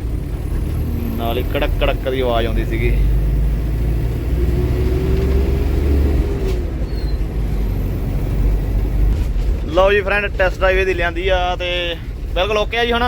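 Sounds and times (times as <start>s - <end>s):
road noise: 0.0s - 13.0s
van engine rumbling: 0.0s - 13.0s.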